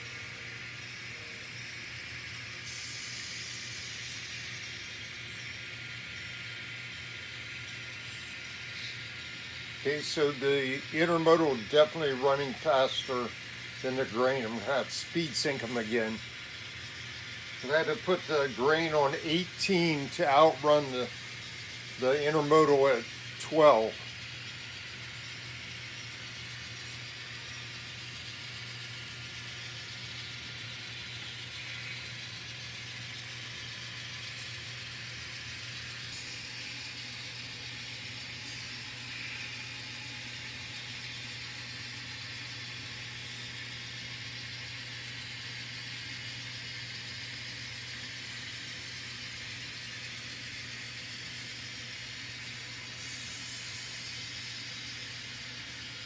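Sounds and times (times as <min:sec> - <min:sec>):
constant low hum: 0:00.0 - 0:56.0
model train diesel engine sound: 0:00.0 - 0:56.0.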